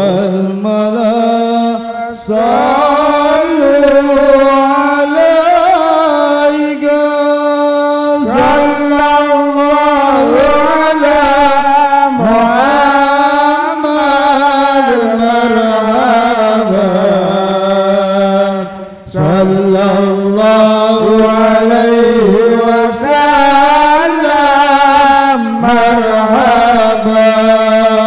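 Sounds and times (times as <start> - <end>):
man chanting into a microphone: 0.0 - 28.0.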